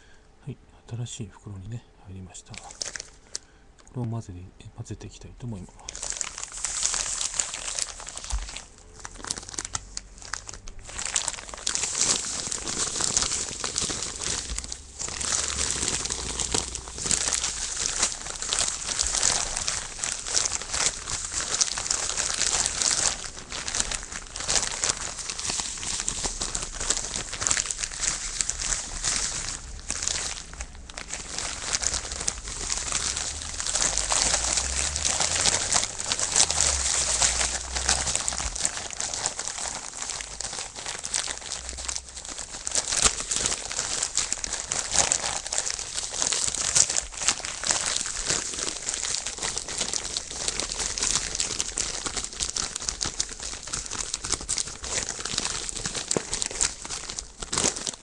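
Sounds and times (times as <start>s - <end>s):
plastic bag crinkling: 2.2s - 4.2s, 5.5s - 58.0s.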